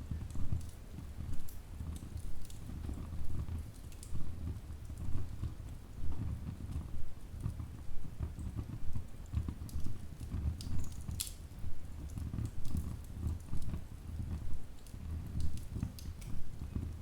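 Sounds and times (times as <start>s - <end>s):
low rumble of flames: 0.0s - 17.0s
logs crackling and popping: 0.1s - 17.0s.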